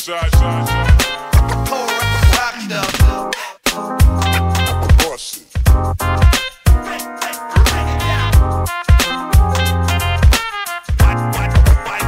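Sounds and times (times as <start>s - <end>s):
music with drums and bass: 0.0s - 12.0s.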